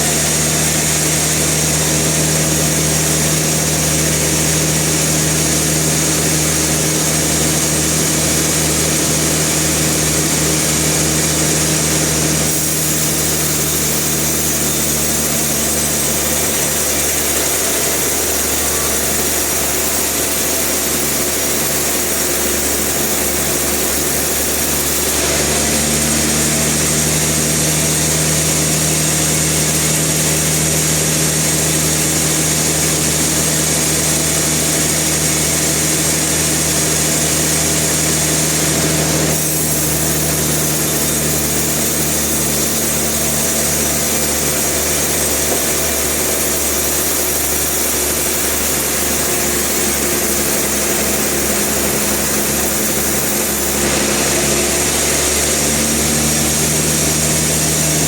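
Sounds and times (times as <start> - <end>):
loud machinery hiss: 0.0 - 58.0
sawmill engine hum: 0.0 - 58.0.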